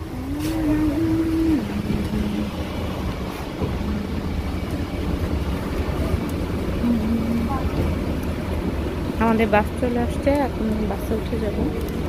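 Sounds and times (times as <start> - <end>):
low traffic rumble: 0.0 - 12.0
vehicle engine hum passing: 0.0 - 12.0.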